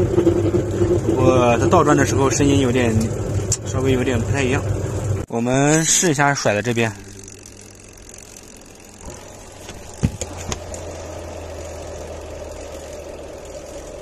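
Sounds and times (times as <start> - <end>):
spin motor running: 0.0 - 14.0.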